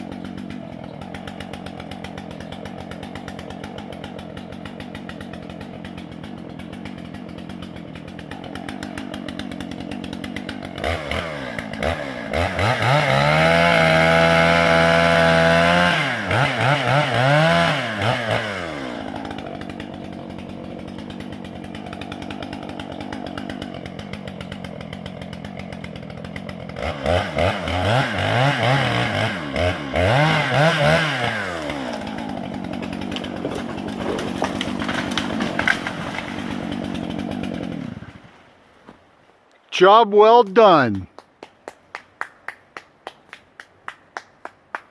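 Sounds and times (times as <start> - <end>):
chainsaw idling and revving: 0.0 - 38.6.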